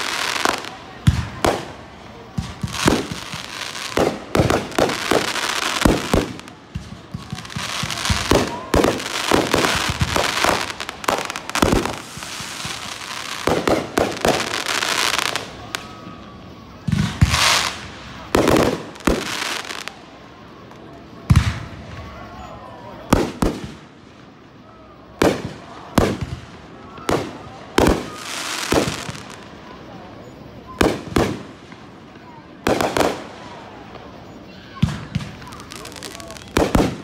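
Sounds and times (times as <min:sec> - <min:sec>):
fireworks booming bursts: 0:00.0 - 0:20.0, 0:21.2 - 0:22.2, 0:23.1 - 0:24.1, 0:25.2 - 0:29.8, 0:30.6 - 0:37.0
fireworks crackling and sizzling: 0:00.0 - 0:37.0.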